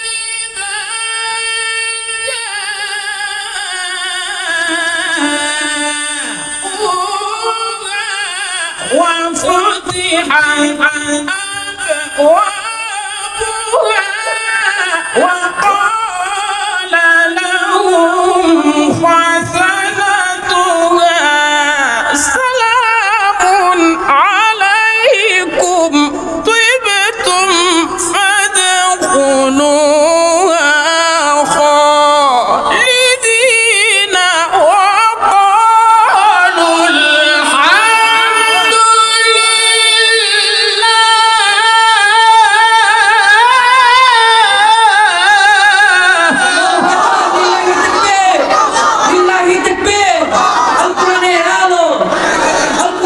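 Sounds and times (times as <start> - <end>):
man reciting in melodic chant: 0.0 - 53.0.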